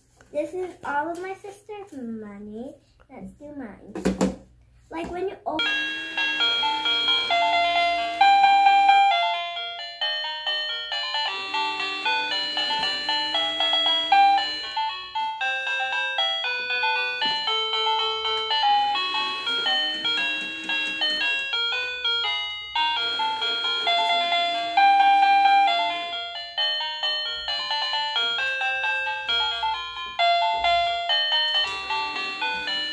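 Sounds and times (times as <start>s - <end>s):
electronic chime melody: 5.6s - 32.9s.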